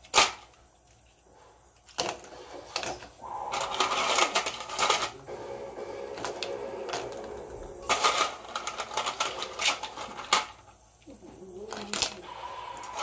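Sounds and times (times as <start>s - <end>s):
broth simmering hiss: 0.0s - 8.2s, 9.4s - 13.0s.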